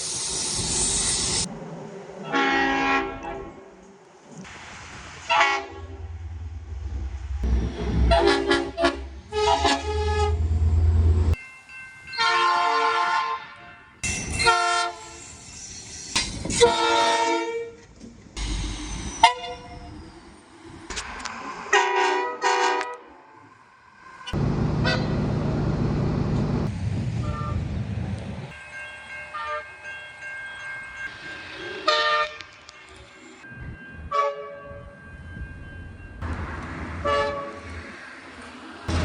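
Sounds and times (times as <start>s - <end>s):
low train rumble: 0.0s - 39.0s.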